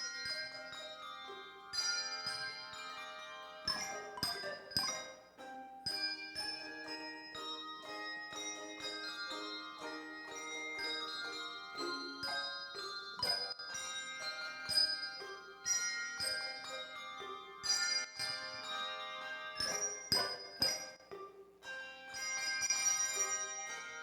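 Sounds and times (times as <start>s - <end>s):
handbell choir playing: 0.0s - 24.0s.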